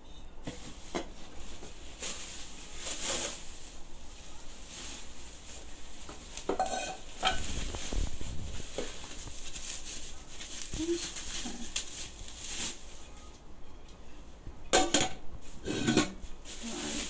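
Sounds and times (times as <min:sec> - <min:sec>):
bubble wrap crinkling: 0:00.4 - 0:13.4, 0:15.4 - 0:17.0.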